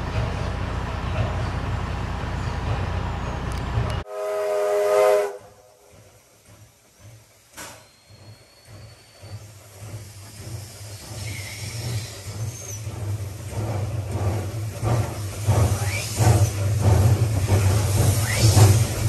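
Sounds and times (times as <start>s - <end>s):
steam locomotive exhaust beats: 0.0s - 19.0s.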